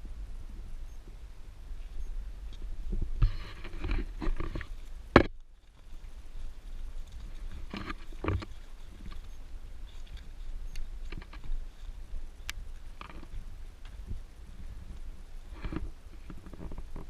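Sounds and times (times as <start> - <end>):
wind rumble on microphone: 0.0 - 17.0
footsteps on rocky trail: 2.4 - 17.0.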